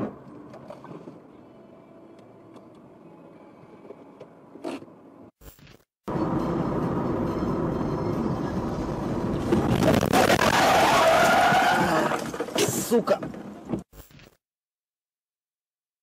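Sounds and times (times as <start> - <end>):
road and engine noise: 0.0 - 14.0.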